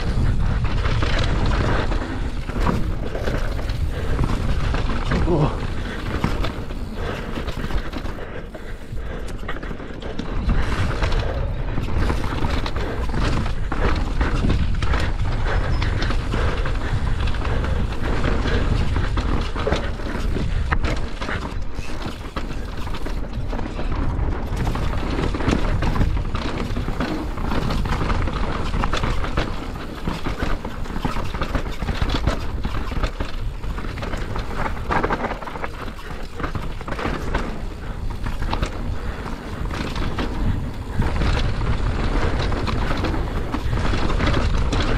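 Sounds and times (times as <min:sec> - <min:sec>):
bike chain and frame clatter: 0:00.0 - 0:44.9
bike tyres rattling over dirt: 0:00.0 - 0:44.9
wind rumble on microphone: 0:00.0 - 0:44.9.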